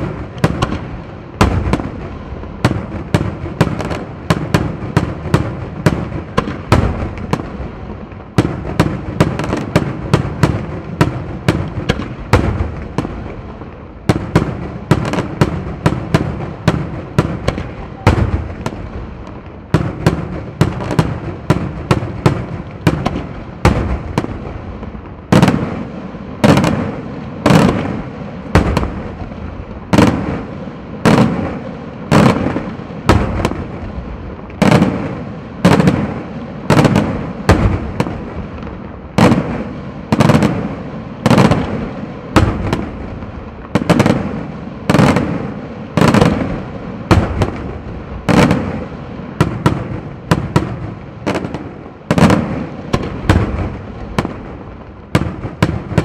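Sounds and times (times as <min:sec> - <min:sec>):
firework cracks: 0:00.0 - 0:56.0.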